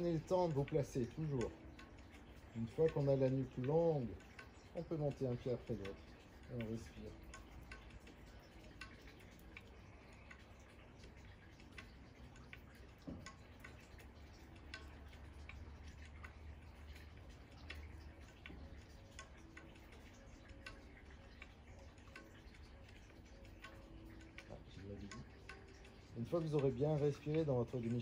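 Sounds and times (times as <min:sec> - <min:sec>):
faint ticks: 0:00.0 - 0:28.0.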